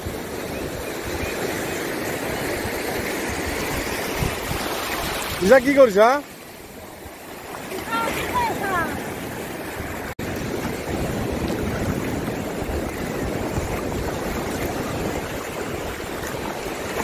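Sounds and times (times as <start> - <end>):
sea surf washing in: 0.0 - 17.0.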